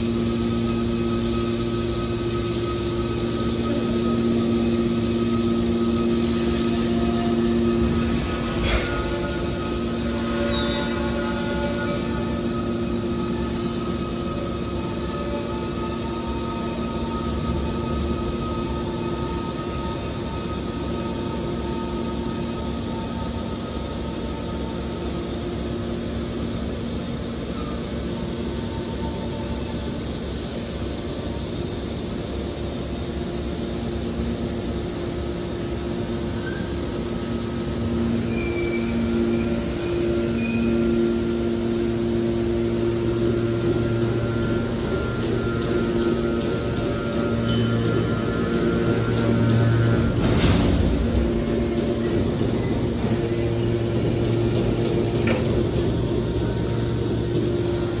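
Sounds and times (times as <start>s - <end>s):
hydraulic power unit humming: 0.0s - 58.0s.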